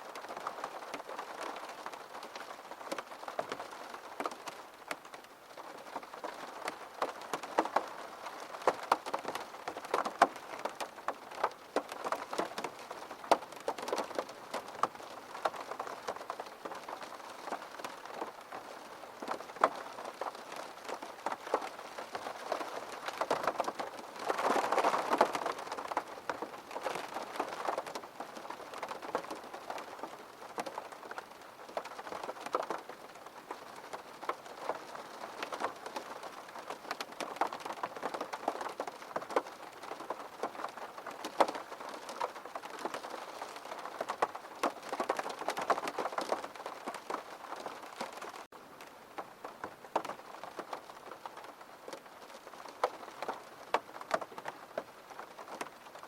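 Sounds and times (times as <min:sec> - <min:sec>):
rain falling: 0:00.0 - 0:56.0
raindrops tapping a surface: 0:00.1 - 0:56.0.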